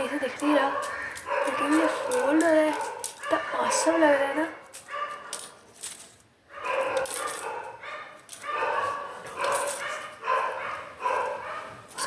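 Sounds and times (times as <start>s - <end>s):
dogs barking: 0.2s - 5.5s, 6.5s - 12.0s.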